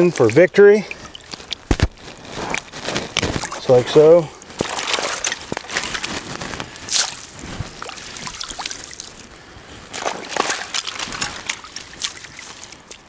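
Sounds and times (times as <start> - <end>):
creek water sloshing and splashing: 0.0 - 2.3, 3.4 - 13.0.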